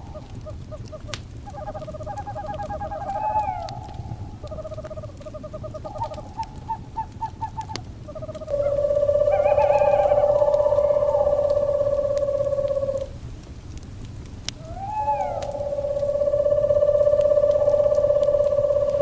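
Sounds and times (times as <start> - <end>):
owls calling in trills: 0.0 - 13.1, 14.6 - 19.0
wood fire crackling: 0.0 - 19.0.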